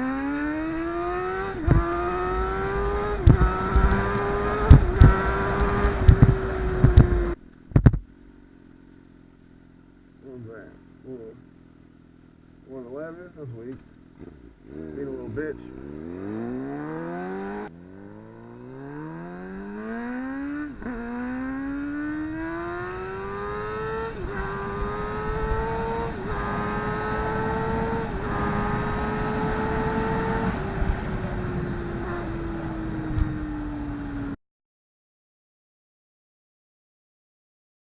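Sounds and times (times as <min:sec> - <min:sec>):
motorcycle engine accelerating: 0:00.0 - 0:34.4.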